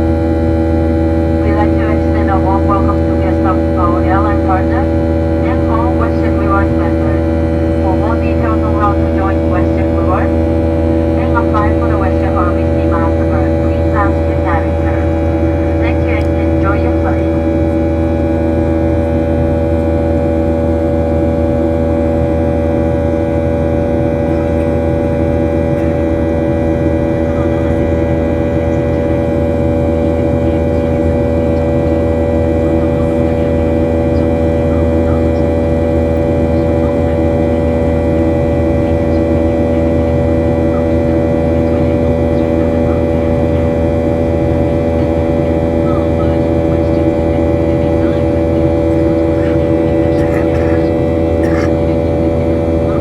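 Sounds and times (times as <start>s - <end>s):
jet engines humming and whining: 0.0s - 53.0s.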